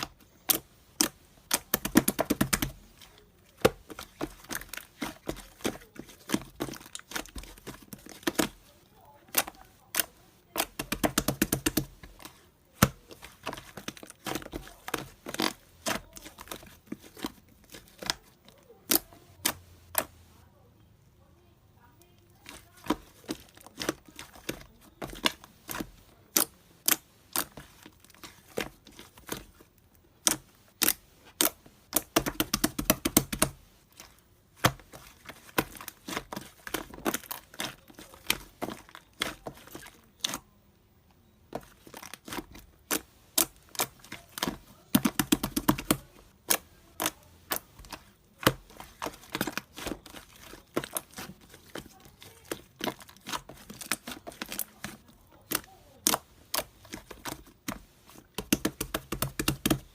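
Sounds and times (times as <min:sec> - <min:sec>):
slime squished by hand: 0:00.0 - 0:20.2, 0:22.3 - 0:40.5, 0:41.5 - 0:59.9.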